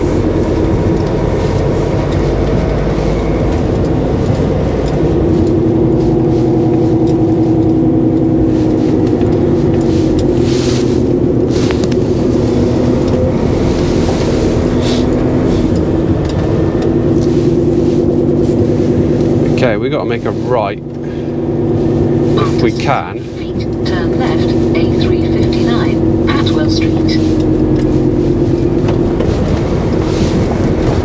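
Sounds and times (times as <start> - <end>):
diesel truck engine drone: 0.0 - 31.0.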